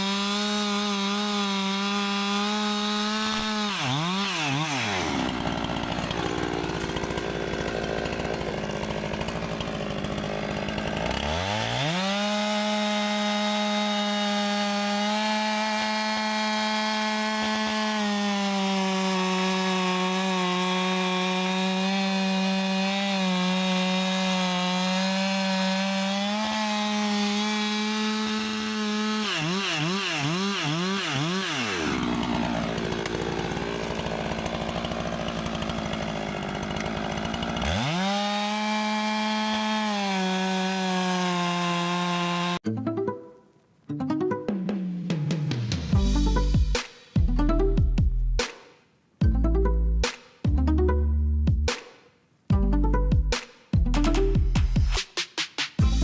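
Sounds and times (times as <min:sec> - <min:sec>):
chainsaw cutting logs: 0:00.0 - 0:42.6, 0:45.1 - 0:50.6, 0:51.6 - 0:56.0.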